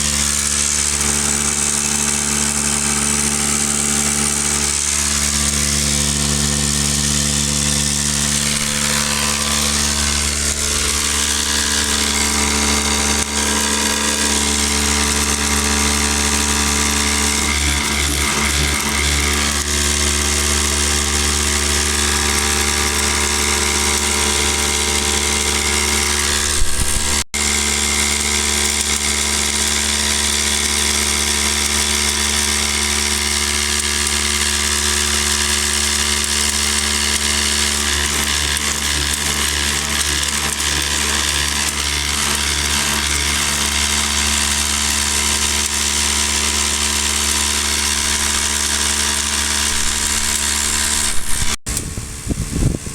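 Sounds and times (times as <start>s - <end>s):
motor humming: 0.0s - 52.9s.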